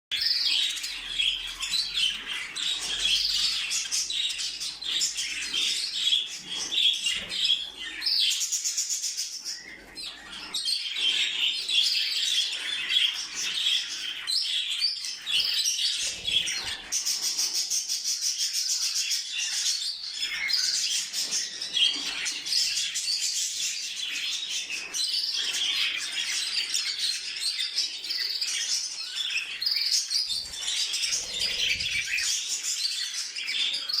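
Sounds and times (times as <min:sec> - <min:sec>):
pet birds chirping and chattering: 0:00.1 - 0:34.0.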